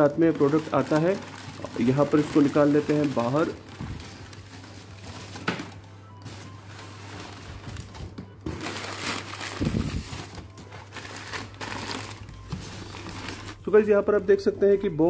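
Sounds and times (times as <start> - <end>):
newspaper crinkling and rustling: 0.0 - 13.9
faint background music: 0.0 - 15.0.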